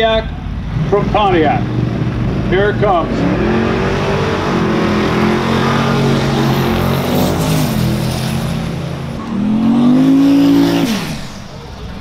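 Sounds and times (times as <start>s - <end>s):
race car engines idling: 0.0s - 12.0s
engine revving: 0.6s - 12.0s.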